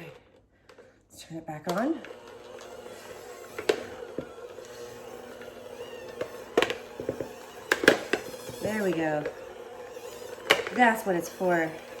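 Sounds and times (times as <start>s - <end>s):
electric mixer motor running: 1.7s - 12.0s.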